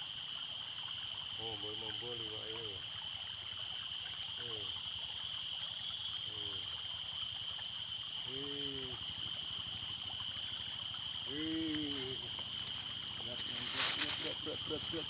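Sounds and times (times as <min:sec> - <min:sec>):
high-pitched insect drone: 0:00.0 - 0:15.0
stream water flowing: 0:00.0 - 0:15.0.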